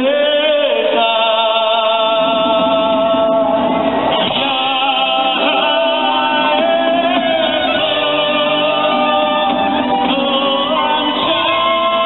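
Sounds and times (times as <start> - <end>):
instrumental backing: 0.0 - 12.0
man singing: 0.0 - 12.0.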